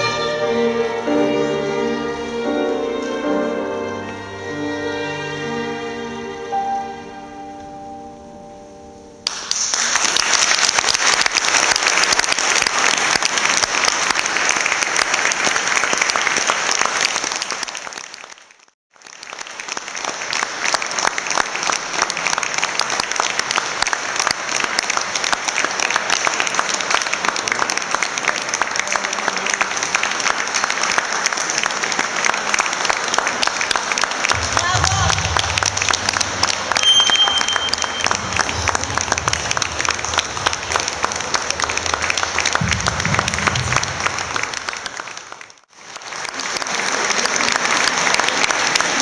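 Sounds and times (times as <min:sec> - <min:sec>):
audience applauding: 0:09.2 - 0:49.0.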